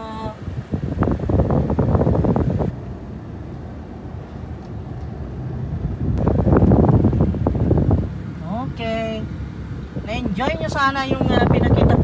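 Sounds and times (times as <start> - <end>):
low steady rumble: 0.0 - 12.0
wind rumbling on microphone: 0.0 - 12.0.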